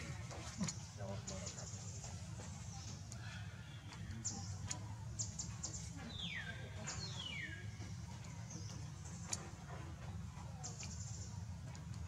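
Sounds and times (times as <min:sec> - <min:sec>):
birds chirping: 0:00.2 - 0:11.8.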